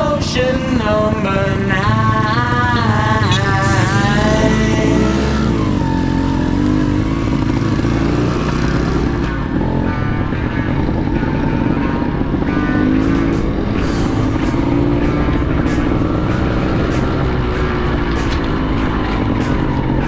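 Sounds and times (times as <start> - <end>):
motorcycle engine running: 0.0 - 20.0
music playing: 0.0 - 20.0.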